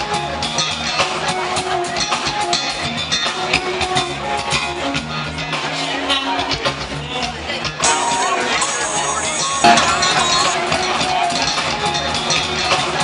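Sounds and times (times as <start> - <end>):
background music with guitar and drums: 0.0 - 13.0.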